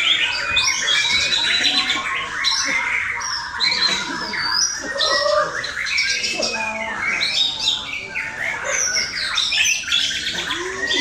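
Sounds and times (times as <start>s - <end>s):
bird singing whistles and chirps: 0.0s - 11.0s.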